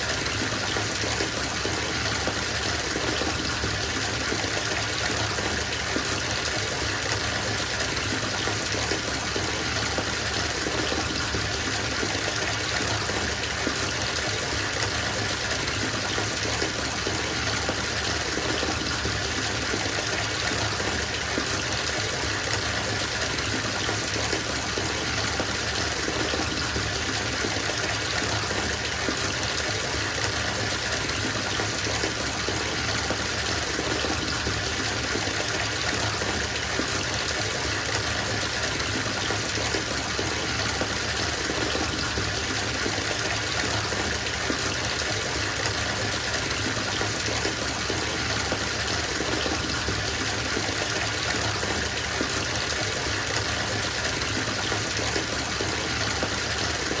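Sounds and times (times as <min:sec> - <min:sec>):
tap water filling bathtub: 0:00.0 - 0:57.0.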